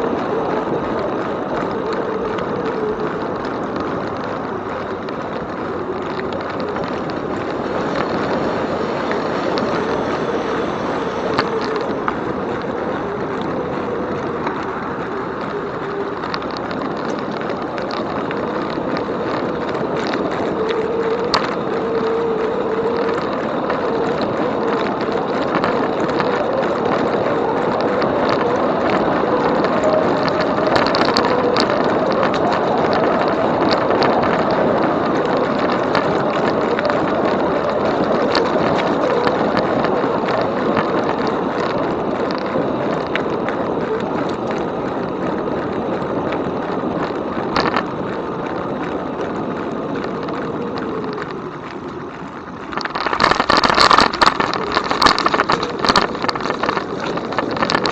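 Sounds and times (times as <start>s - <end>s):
light ticks and clicks: 0.0s - 57.9s
tyre noise: 0.0s - 57.9s
wind on microphone: 0.0s - 57.9s.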